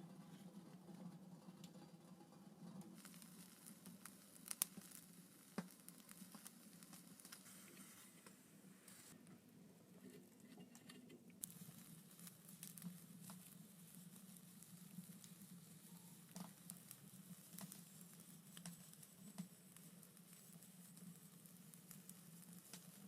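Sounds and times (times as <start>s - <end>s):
faint clicks and ticks: 0.2s - 9.4s, 10.0s - 23.0s.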